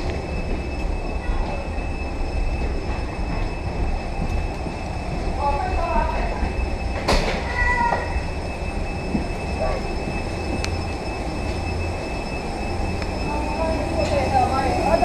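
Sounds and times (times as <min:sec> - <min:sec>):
high-pitched whine tones: 0:00.0 - 0:15.0
machinery rumble and hum: 0:00.0 - 0:15.0.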